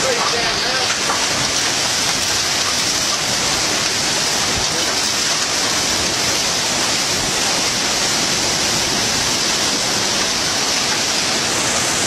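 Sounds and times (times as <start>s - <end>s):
torrential wind-driven rain: 0.0s - 12.0s.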